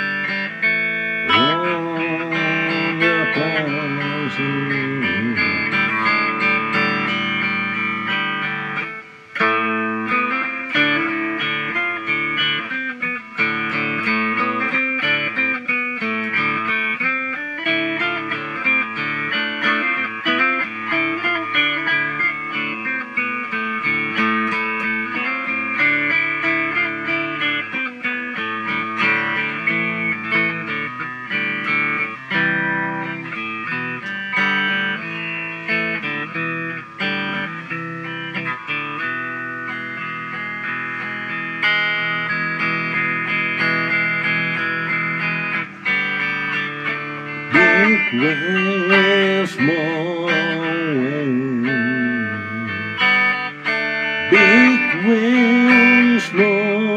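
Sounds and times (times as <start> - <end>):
electric guitar melody: 0.0 - 56.9.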